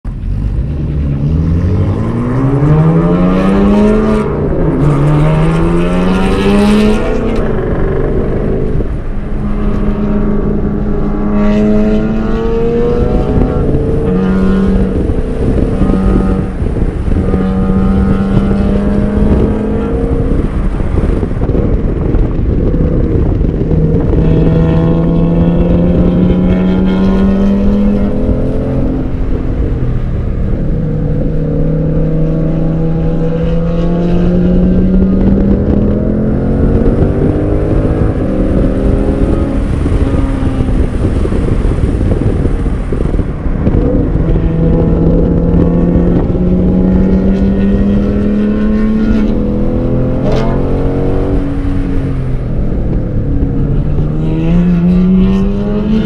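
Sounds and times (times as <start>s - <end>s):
car engine accelerating: 0.1s - 56.0s.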